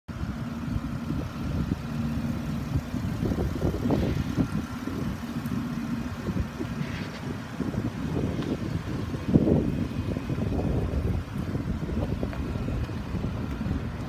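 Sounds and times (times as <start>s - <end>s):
car engine idling: 0.1s - 14.0s.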